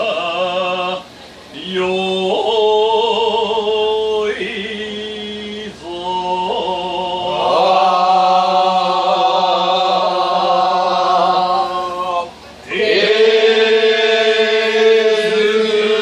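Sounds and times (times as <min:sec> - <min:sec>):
group of voices singing: 0:00.0 - 0:16.0
single voice singing: 0:00.0 - 0:16.0
men chanting in long notes: 0:01.6 - 0:16.0.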